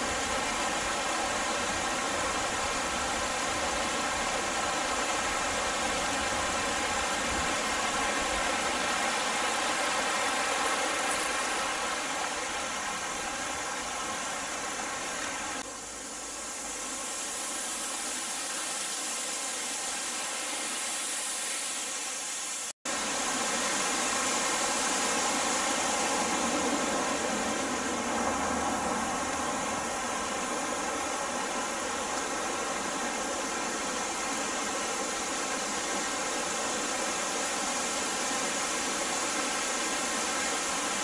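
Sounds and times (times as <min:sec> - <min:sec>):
waterfall rushing over rock: 0:00.0 - 0:41.0.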